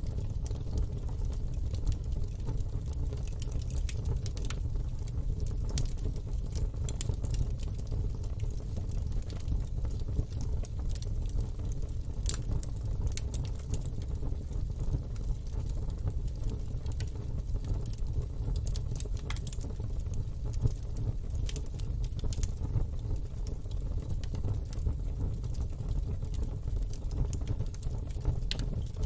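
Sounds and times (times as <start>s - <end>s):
wood crackling and popping: 0.0s - 29.0s.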